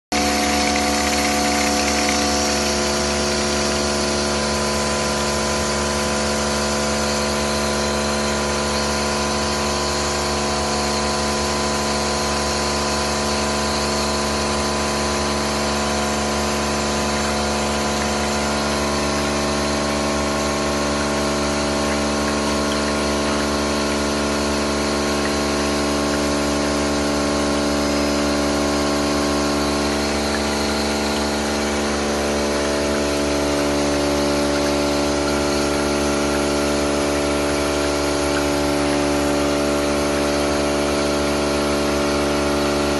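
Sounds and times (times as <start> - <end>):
pressure washer pump humming: 0.0 - 42.9
water jet hissing: 0.1 - 42.9.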